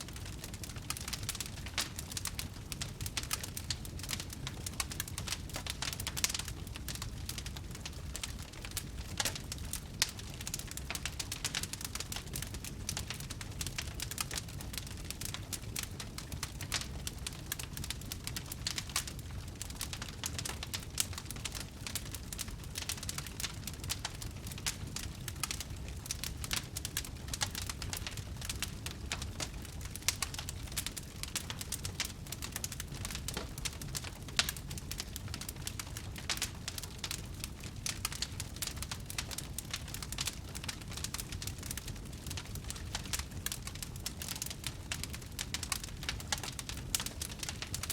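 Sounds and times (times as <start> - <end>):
fire crackling: 0.0 - 47.9.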